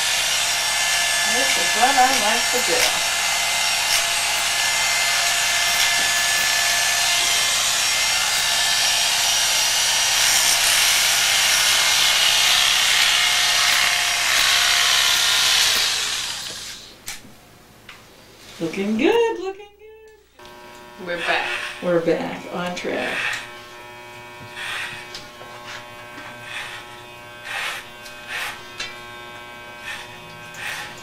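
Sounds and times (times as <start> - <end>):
electric hair clippers running: 0.0 - 16.9, 20.4 - 31.0.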